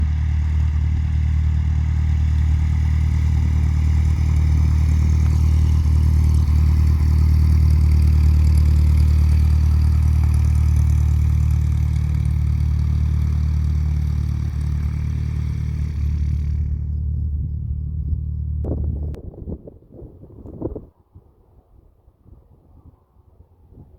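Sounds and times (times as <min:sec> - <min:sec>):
propeller plane engine drone: 0:00.0 - 0:19.7.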